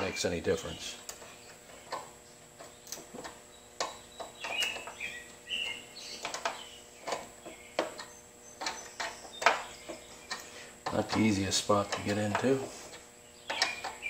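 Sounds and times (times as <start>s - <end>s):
hand tools clicking on metal: 1.1s - 14.0s.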